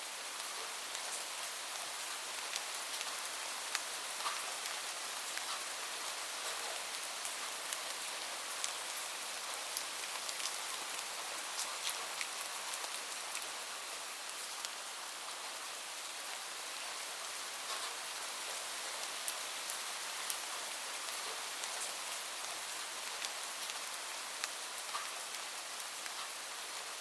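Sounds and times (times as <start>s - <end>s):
raindrops ticking on a surface: 0.3s - 15.5s, 16.2s - 27.0s.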